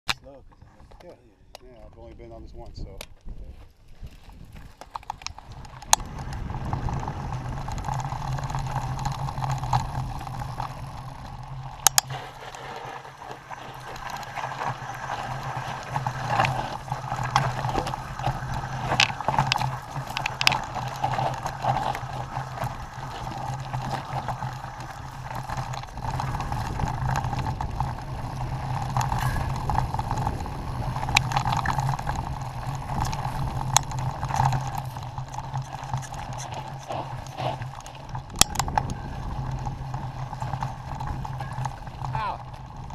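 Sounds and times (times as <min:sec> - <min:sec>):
bike tyres rolling on dirt: 0:00.2 - 0:42.9
bike clicks and rattles: 0:00.9 - 0:42.9.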